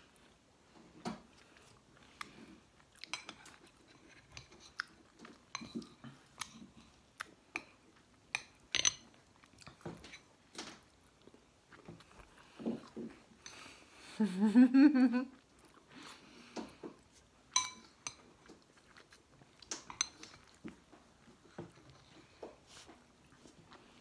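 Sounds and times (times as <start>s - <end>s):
chewing and wet mouth sounds: 1.3s - 13.9s, 15.3s - 24.0s.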